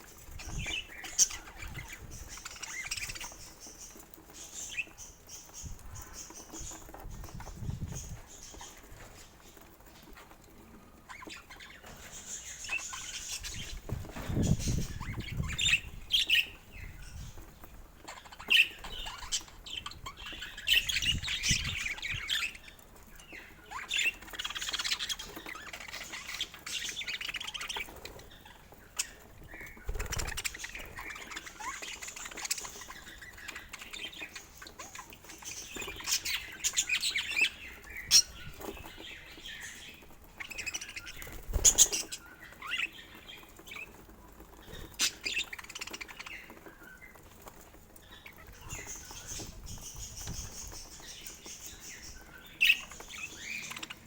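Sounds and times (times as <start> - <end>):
budgerigars chirping and chattering: 0.0 - 54.0.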